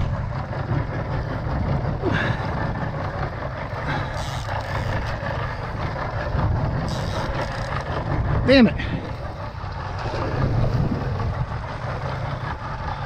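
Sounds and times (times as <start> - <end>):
boat engine running: 0.0 - 13.0
water rushing along hull: 0.0 - 13.0.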